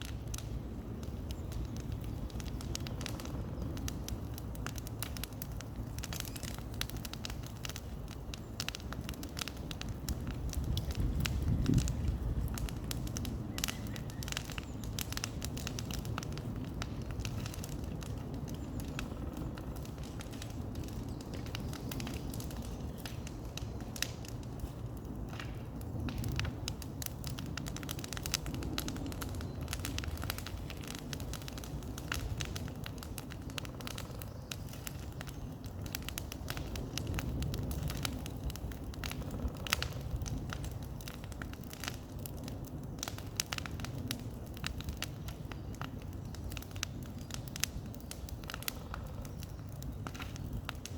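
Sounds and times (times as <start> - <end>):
bonfire wood crackling and popping: 0.0 - 50.9
low fire rumble: 0.0 - 50.9.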